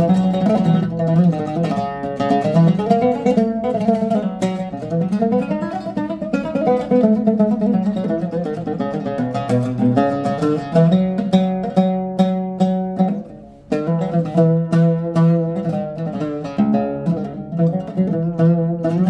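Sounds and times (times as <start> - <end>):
oud picked with plectrum: 0.0 - 19.0.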